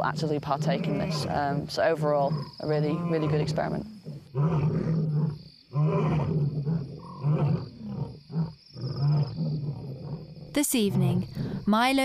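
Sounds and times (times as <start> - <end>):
lion roaring: 0.0 - 11.3
lion grunting calls: 0.0 - 11.6.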